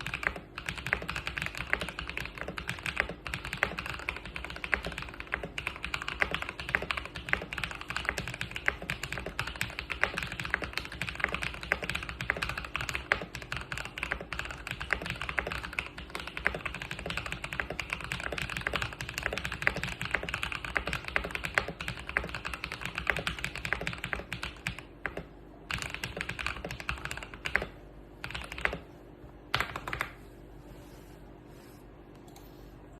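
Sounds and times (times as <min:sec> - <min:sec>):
mechanical keyboard typing: 0:00.0 - 0:28.8, 0:29.5 - 0:30.2.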